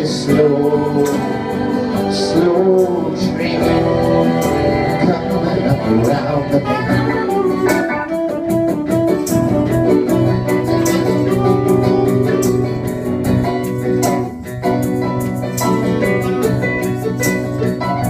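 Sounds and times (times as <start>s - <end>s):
live blues-rock band playing: 0.0s - 18.0s.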